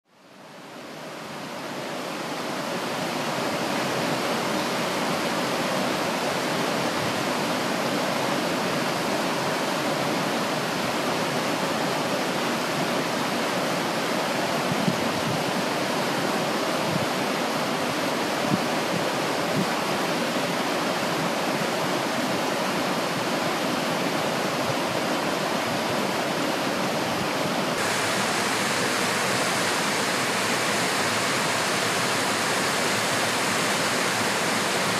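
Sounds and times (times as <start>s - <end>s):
water flowing over stony riverbed: 0.2s - 34.9s
stream cascading over rocks: 0.6s - 34.9s.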